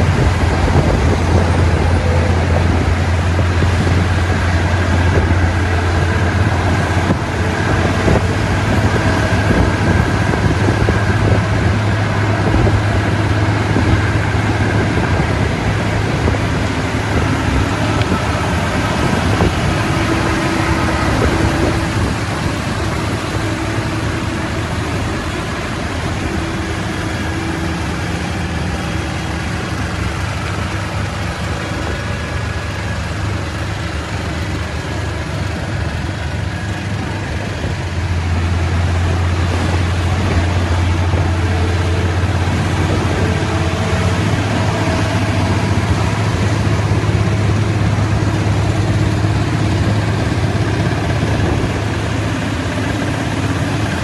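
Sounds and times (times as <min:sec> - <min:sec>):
diesel truck engines running: 0:00.0 - 0:54.0.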